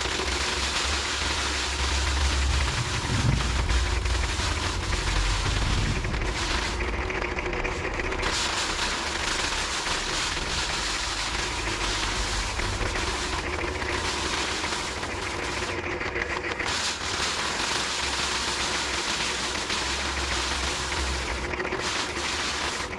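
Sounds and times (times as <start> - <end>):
thresher rattling clatter: 0.0 - 22.9.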